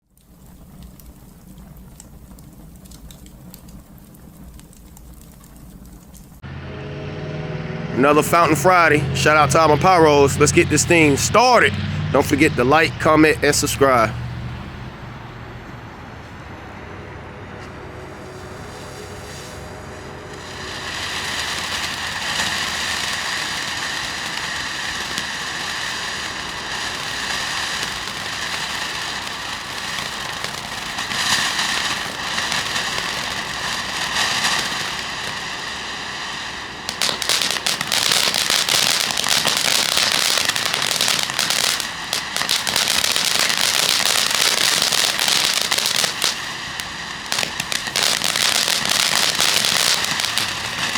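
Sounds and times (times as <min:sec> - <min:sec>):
fountain firework hissing and crackling: 0:00.0 - 0:06.5, 0:08.0 - 0:15.0, 0:18.0 - 0:50.9.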